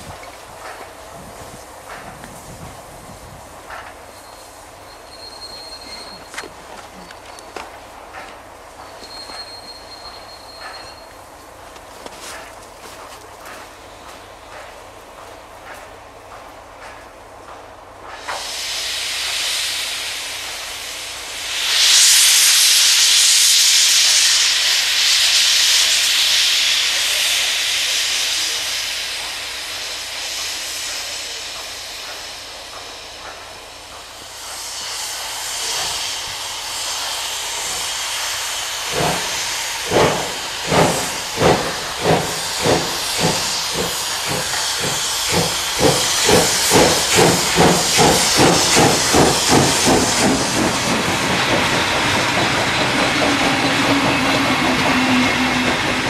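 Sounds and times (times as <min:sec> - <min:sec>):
steam hissing: 0:00.0 - 0:56.0
steam locomotive chuffing: 0:00.0 - 0:56.0.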